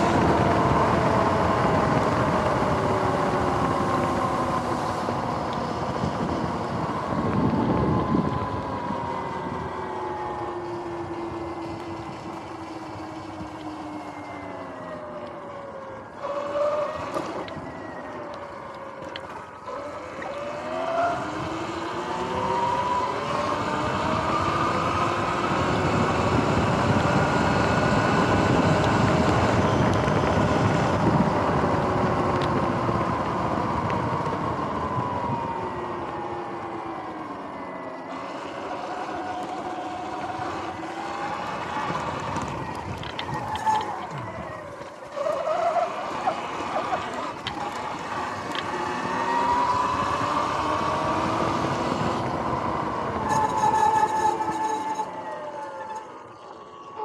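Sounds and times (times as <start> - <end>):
electric motor whine: 0.0 - 45.2, 45.9 - 57.0
rushing wind: 0.0 - 56.4.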